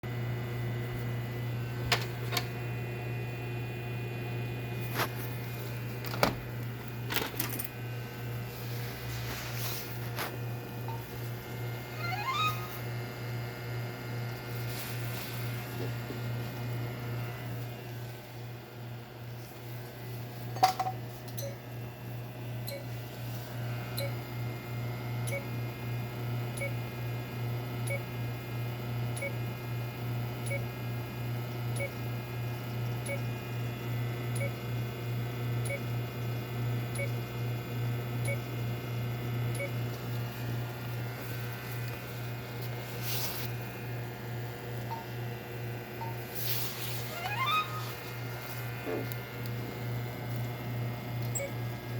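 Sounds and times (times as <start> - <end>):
low electrical hum: 0.1 - 51.9.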